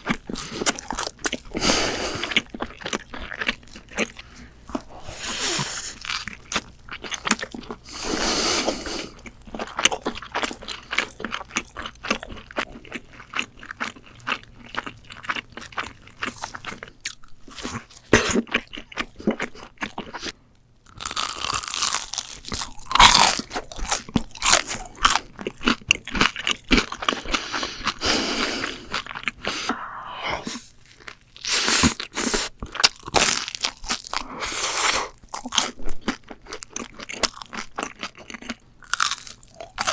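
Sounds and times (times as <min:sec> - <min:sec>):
crunchy food being chewed: 0:00.0 - 0:29.8, 0:30.4 - 0:39.9.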